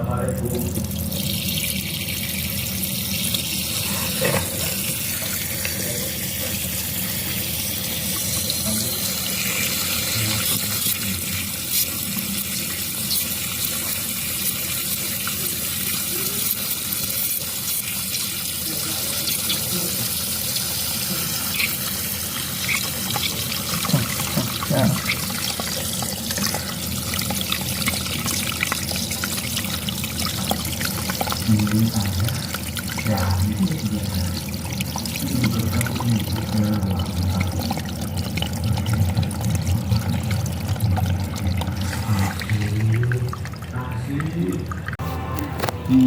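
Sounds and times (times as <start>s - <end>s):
water running steadily: 0.0s - 46.0s.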